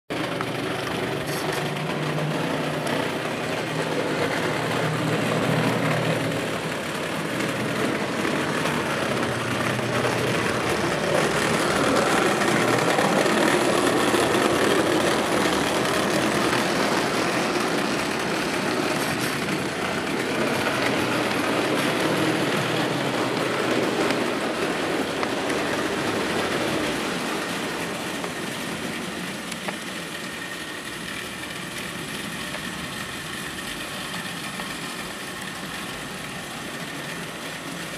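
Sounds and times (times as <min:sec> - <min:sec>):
toy train running on track: 0:00.1 - 0:37.9.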